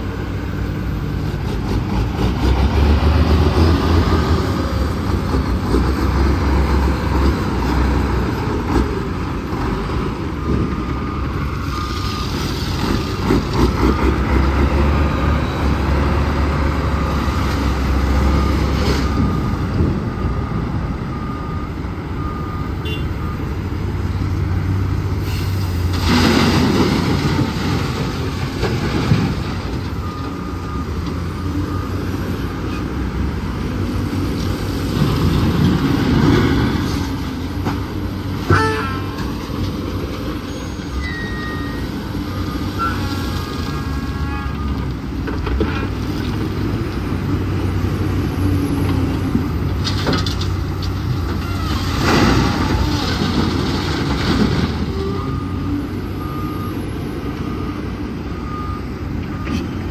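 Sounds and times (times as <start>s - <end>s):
diesel truck engine drone: 0.0s - 59.9s.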